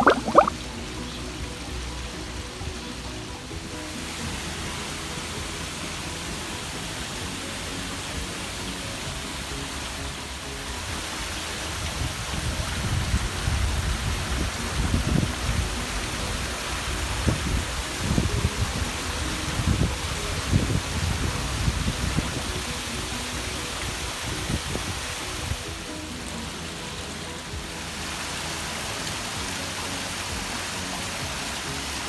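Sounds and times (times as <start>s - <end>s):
water splashing in a waterfall: 0.0s - 32.0s.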